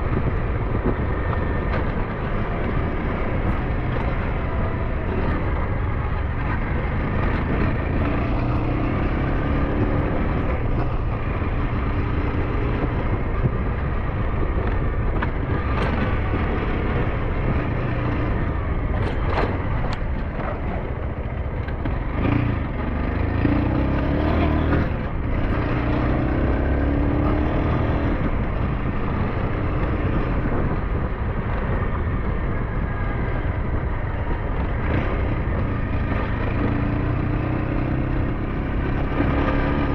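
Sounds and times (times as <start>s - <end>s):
motorbike engine running: 0.0s - 39.9s
wind on microphone: 0.0s - 39.9s.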